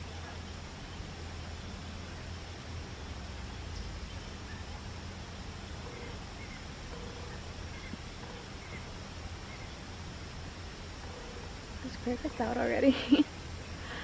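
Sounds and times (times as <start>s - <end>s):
faint cricket chirping: 0.0s - 14.0s
steady hiss and low rumble: 0.0s - 14.0s.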